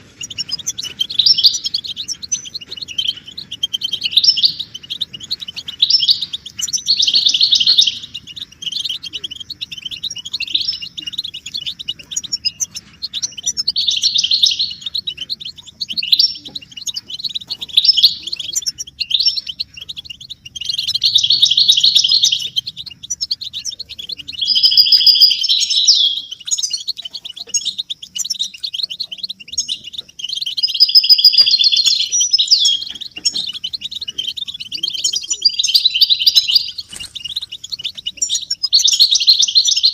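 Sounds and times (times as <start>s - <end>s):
finches twittering: 0.0s - 39.9s.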